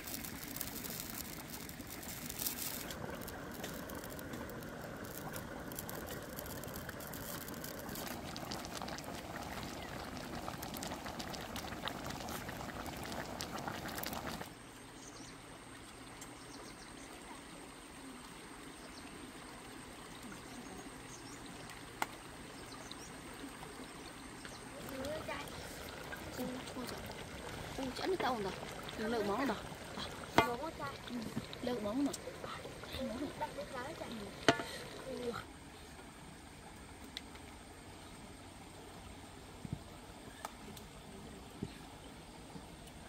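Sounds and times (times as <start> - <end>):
curry boiling with pops: 0.0 - 43.0
stream trickling: 0.0 - 43.0.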